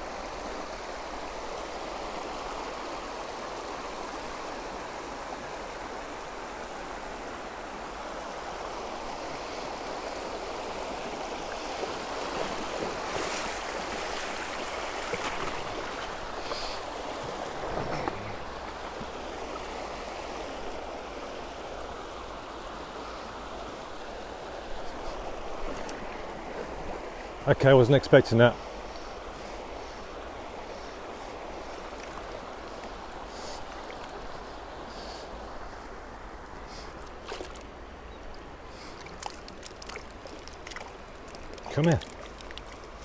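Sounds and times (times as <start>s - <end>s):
river water rushing over stones: 0.0s - 22.8s, 31.2s - 43.0s.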